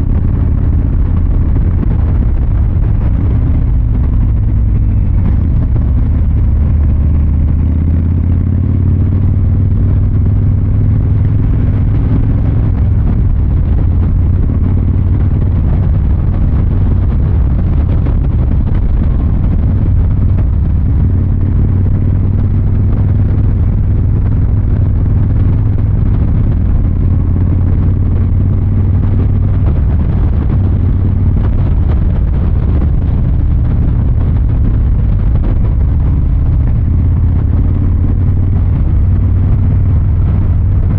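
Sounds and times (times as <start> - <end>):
motorcycle exhaust rumbling: 0.0 - 40.9.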